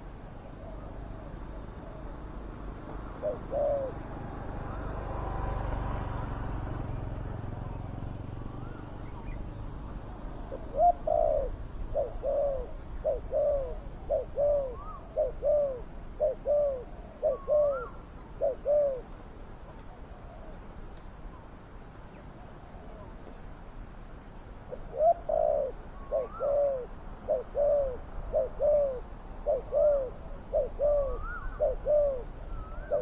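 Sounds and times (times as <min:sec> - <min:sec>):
dove cooing: 0:00.0 - 0:20.6, 0:24.7 - 0:33.0.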